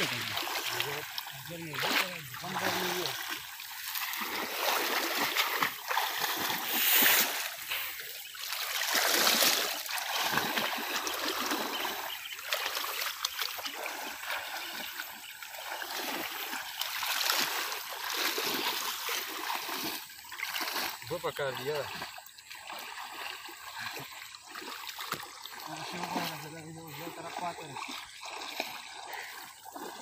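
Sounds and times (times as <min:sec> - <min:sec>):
muddy water splashing: 0:00.0 - 0:30.0.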